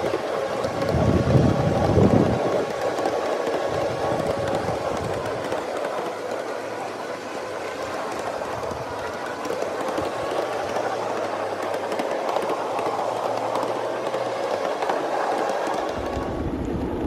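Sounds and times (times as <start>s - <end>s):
train wheels rattling on rail: 0.0s - 17.0s.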